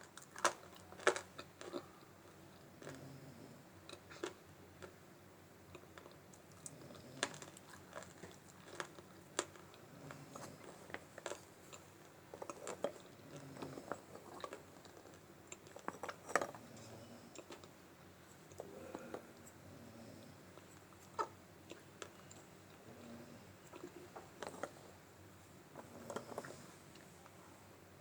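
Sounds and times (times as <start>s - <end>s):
clay being chewed: 0.0s - 3.1s, 5.7s - 19.6s, 20.2s - 25.0s, 25.6s - 27.2s.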